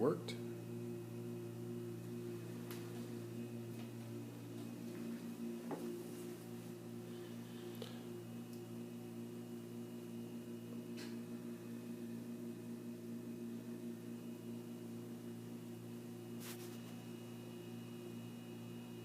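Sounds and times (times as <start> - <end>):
low electrical hum with hiss: 0.0 - 19.0.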